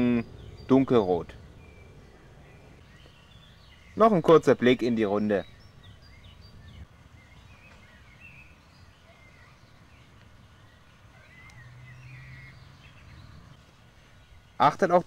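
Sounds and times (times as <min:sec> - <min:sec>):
low steady hum: 0:00.0 - 0:14.8
small birds chirping: 0:00.0 - 0:15.0.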